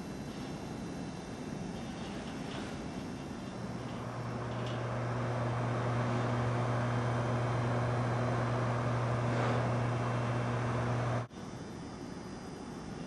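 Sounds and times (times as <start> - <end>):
low drone with hiss: 0.0 - 13.0.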